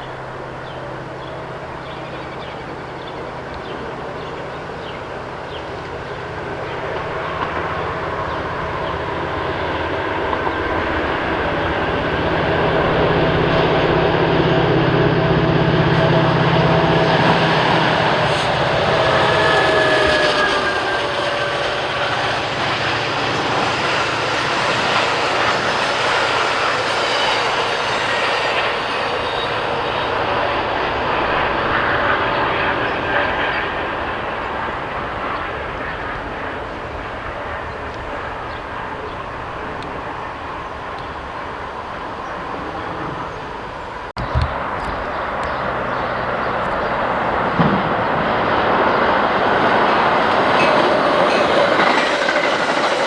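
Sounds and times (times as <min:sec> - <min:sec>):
train rolling past on rails: 0:00.0 - 0:53.0.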